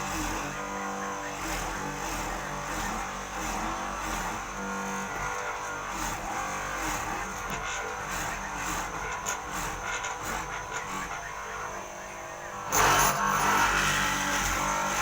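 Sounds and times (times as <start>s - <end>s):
machine motor running: 0.0s - 15.0s.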